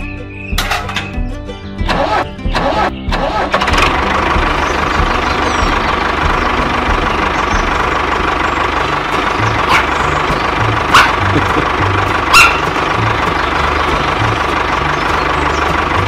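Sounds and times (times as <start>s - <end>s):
tractor engine starting and running: 0.4s - 16.0s.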